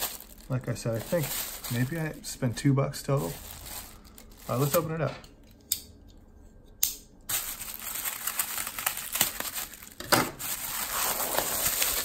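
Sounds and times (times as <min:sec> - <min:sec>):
plastic bag tearing and crinkling: 0:00.0 - 0:05.1, 0:07.3 - 0:12.0.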